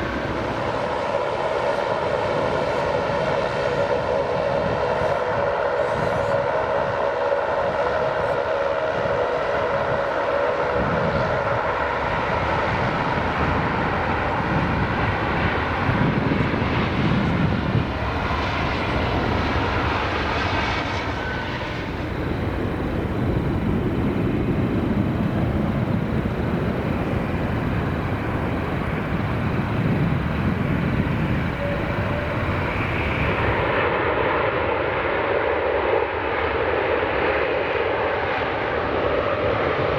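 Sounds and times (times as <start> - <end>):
jet engine whine: 0.0 - 39.9.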